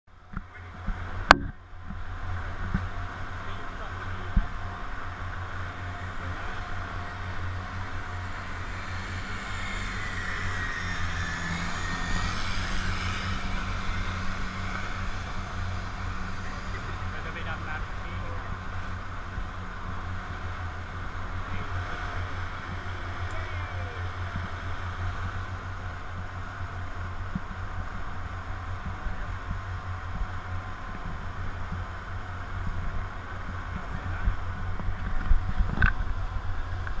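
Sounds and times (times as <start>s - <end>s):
wind: 0.0s - 37.0s
outboard motors drone: 0.1s - 37.0s.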